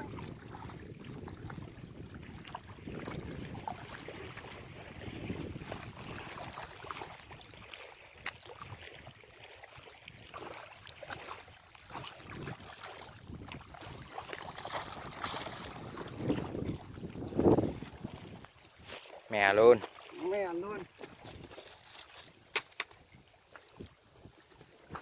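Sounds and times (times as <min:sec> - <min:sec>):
wind on microphone: 0:00.0 - 0:18.9, 0:21.0 - 0:25.0
water splashing and sloshing: 0:00.0 - 0:25.0.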